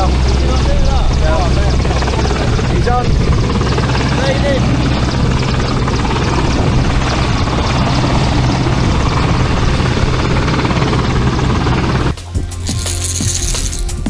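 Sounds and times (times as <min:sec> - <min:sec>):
boat engine humming: 0:00.0 - 0:14.0
wind rushing: 0:00.8 - 0:12.2.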